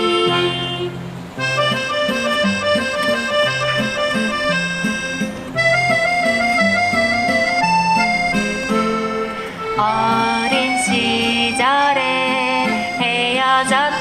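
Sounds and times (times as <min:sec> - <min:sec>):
accordion playing: 0:00.0 - 0:14.0.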